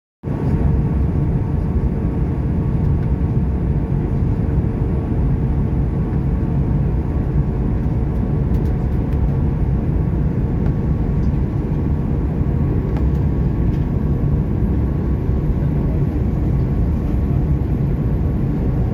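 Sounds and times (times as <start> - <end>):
low rumble of engines and airflow: 0.3 - 18.9.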